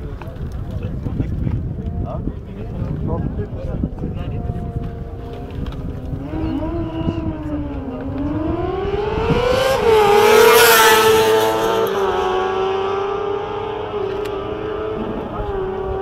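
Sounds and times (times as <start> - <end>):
motorcycles at full throttle: 0.0 - 16.0.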